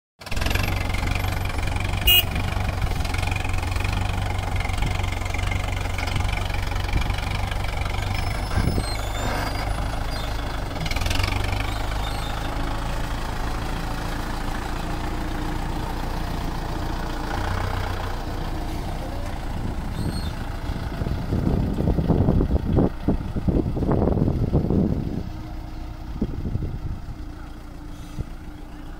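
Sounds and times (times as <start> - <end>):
tractor diesel engine under load: 0.2 - 28.9.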